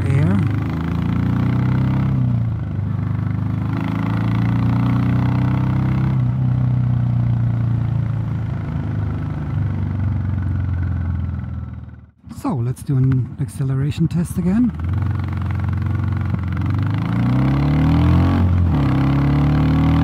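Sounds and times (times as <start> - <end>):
motorcycle engine running: 0.0 - 12.2, 12.9 - 20.0.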